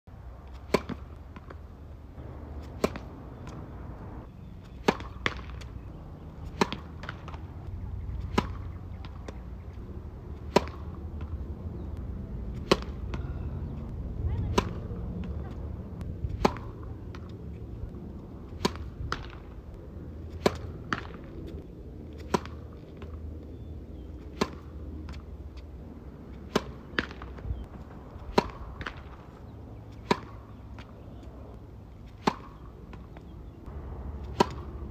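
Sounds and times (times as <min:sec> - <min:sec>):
low steady rumble: 0:00.1 - 0:04.7, 0:05.3 - 0:29.9, 0:33.4 - 0:34.9
racket striking tennis ball: 0:00.5 - 0:09.8, 0:10.4 - 0:25.7, 0:26.3 - 0:31.3, 0:32.0 - 0:34.9.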